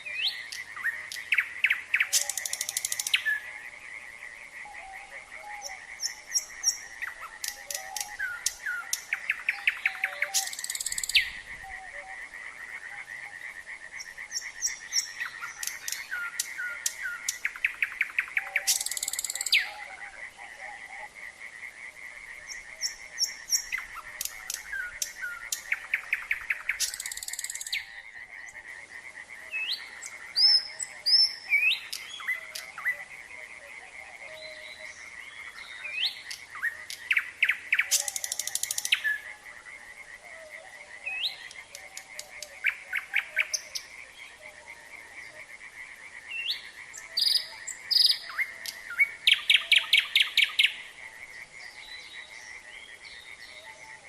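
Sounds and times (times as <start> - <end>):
nightingale singing: 0.0 - 3.6, 4.6 - 21.2, 22.4 - 28.7, 29.4 - 39.4, 40.3 - 45.6, 46.2 - 54.0
chorus of frogs calling: 0.0 - 54.0.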